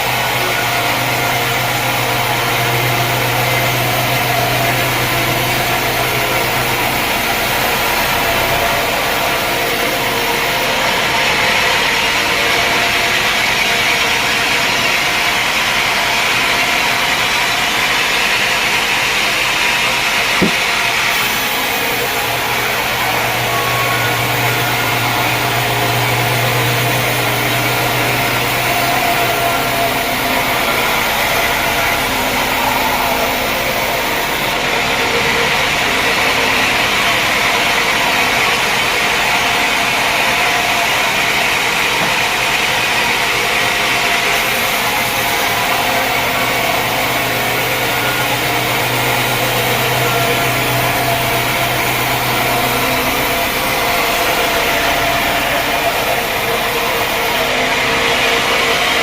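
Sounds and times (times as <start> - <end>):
machinery low hum: 0.0 - 59.0.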